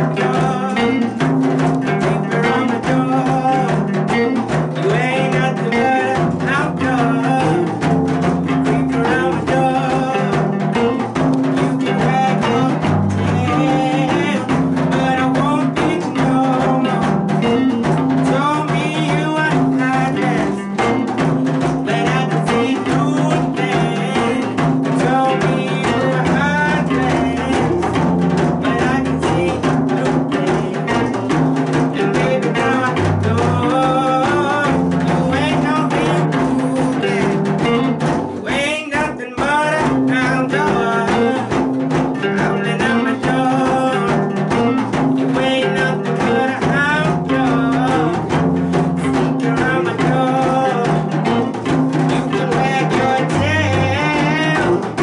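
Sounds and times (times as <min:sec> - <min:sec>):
acoustic and electric guitars: 0:00.0 - 0:55.0
drum kit steady beat: 0:00.0 - 0:55.0
stepping bass line: 0:00.0 - 0:55.0.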